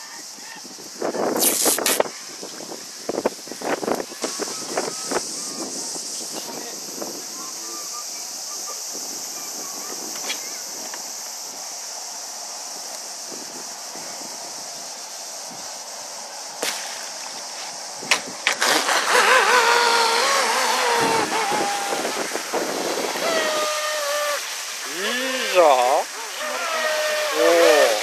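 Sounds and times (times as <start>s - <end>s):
steady hiss: 0.0s - 28.0s
water hiss: 0.0s - 28.0s.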